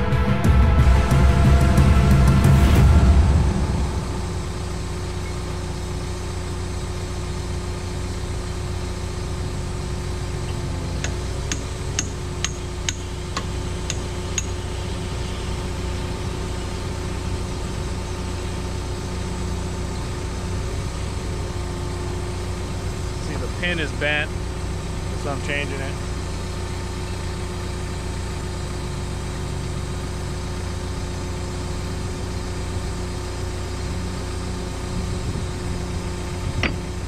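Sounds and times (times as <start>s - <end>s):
excavator diesel engine idling: 0.0s - 37.0s.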